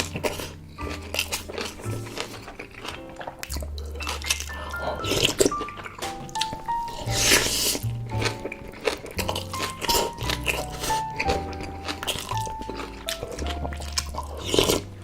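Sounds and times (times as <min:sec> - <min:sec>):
background music: 0:00.0 - 0:15.0
chewing and crunching food: 0:00.0 - 0:15.0.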